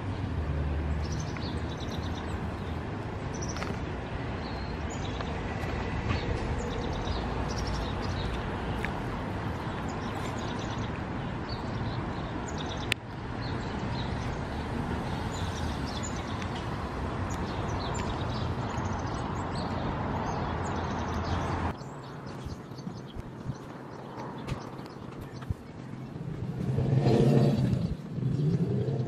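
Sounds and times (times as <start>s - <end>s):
small birds chirping: 0.9s - 29.0s.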